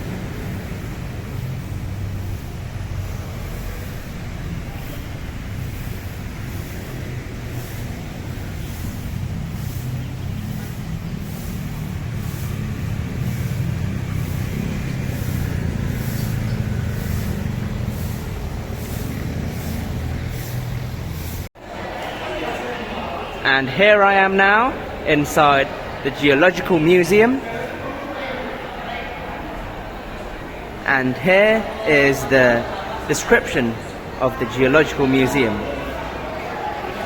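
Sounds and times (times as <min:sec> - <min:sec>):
street traffic rumble: 0:00.0 - 0:37.0.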